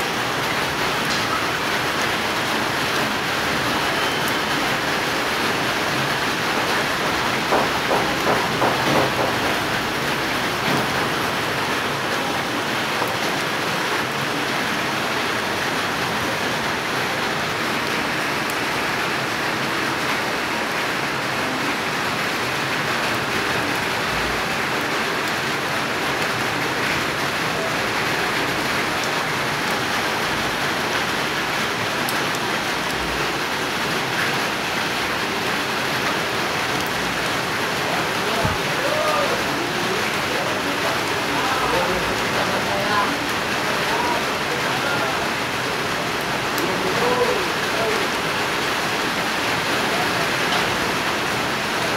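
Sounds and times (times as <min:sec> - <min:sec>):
light rain on roofs: 0:00.0 - 0:51.9.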